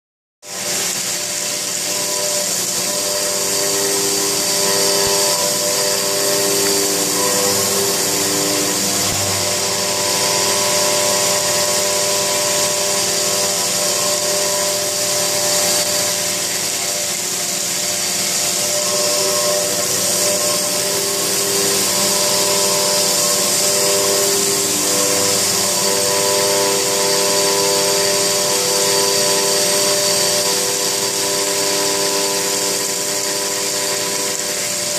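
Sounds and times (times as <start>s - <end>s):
milling spindle whining tones: 0.4s - 34.9s
stone cutting and water spray hiss: 0.4s - 34.9s.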